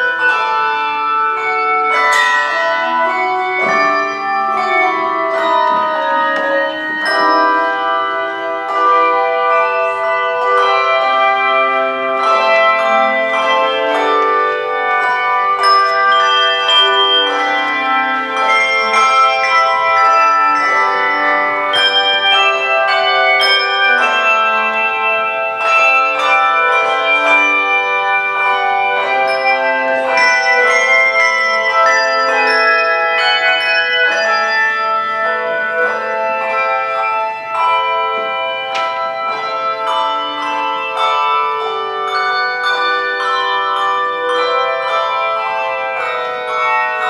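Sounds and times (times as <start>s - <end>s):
handbell choir playing: 0.0s - 47.0s.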